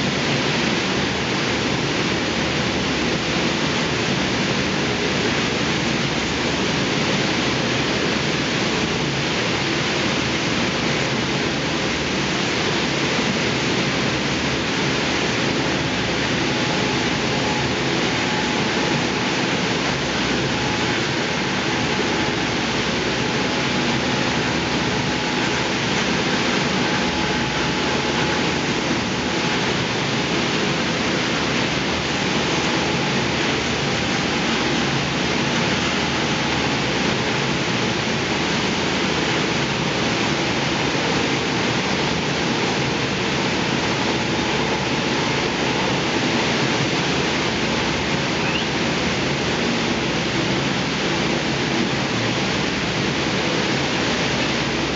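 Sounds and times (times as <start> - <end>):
thermal lance hissing rush: 0.0 - 54.9.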